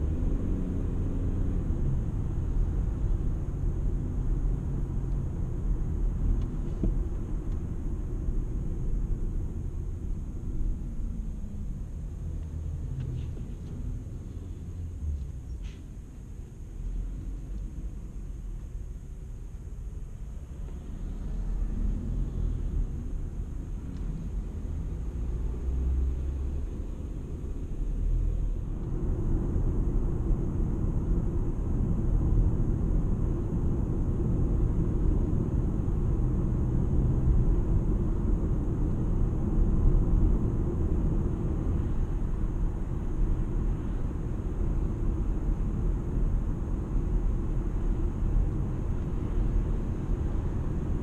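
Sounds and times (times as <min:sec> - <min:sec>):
road and tyre noise: 0:00.0 - 0:51.0.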